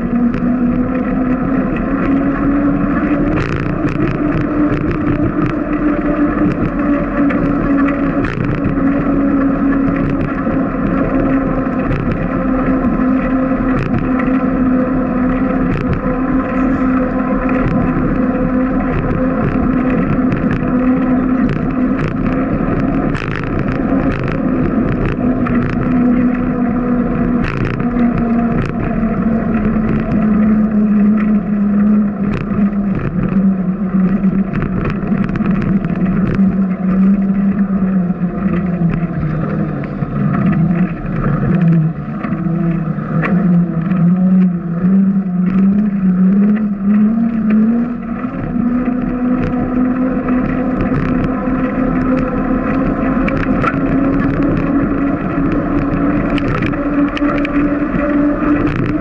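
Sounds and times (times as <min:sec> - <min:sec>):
bicycle riding hum: 0:00.0 - 0:59.0.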